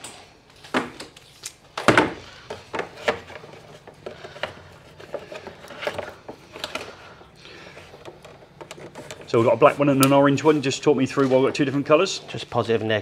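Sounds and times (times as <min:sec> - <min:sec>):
cables rubbing and rustling: 0:02.5 - 0:13.0.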